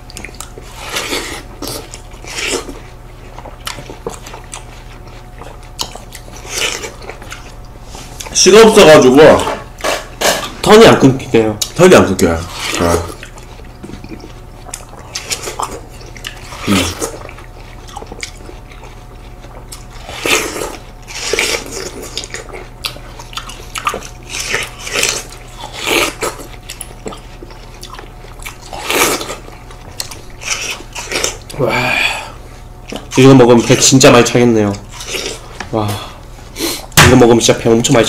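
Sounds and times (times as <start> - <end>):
people biting and chewing watermelon: 0.0 - 38.0.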